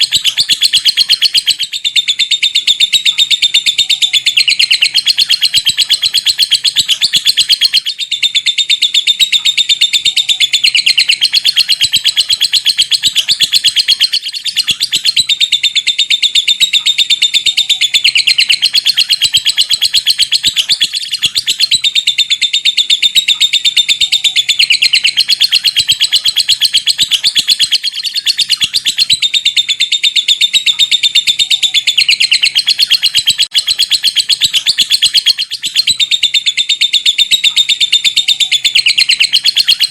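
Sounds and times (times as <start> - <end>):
lovebird rapid chirping chatter: 0.0 - 39.9.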